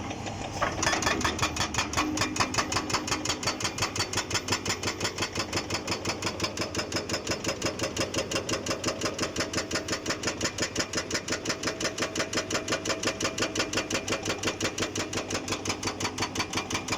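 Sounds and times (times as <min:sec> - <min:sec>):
diesel engine under load: 0:00.0 - 0:12.4, 0:13.3 - 0:16.9.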